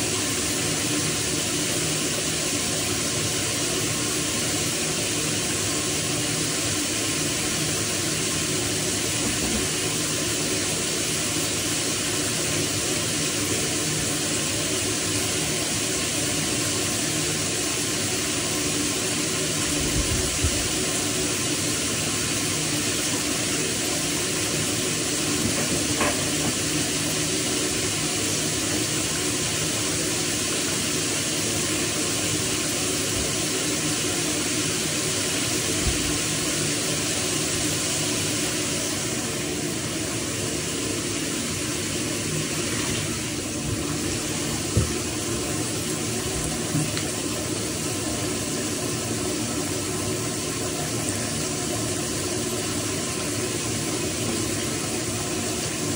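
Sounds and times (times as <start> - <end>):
shower spray running: 0.0 - 55.9.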